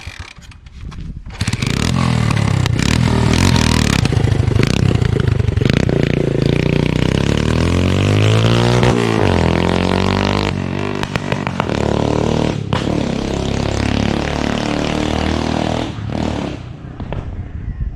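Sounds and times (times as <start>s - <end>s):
motorcycle engine revving: 1.3s - 17.0s.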